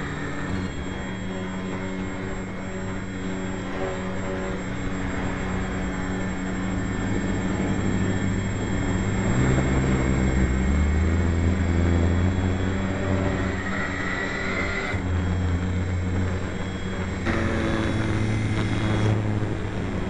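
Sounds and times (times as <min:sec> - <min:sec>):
model airplane motor drone: 0:00.0 - 0:20.0.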